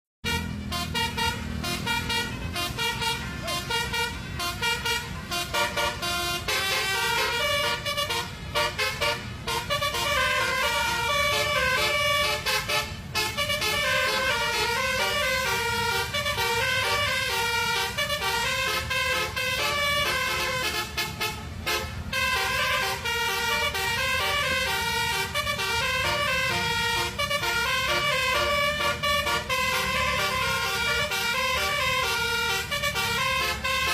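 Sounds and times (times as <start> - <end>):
musical horn melody: 0.2 - 33.9.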